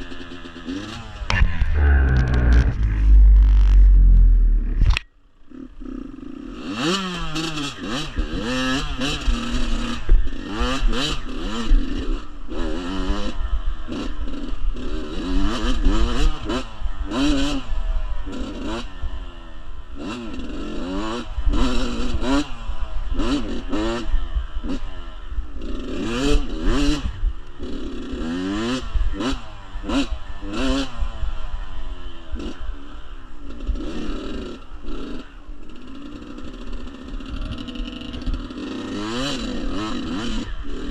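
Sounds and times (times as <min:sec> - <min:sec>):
dirt bike engine revving: 0:00.0 - 0:19.3, 0:20.0 - 0:31.8, 0:33.5 - 0:40.9.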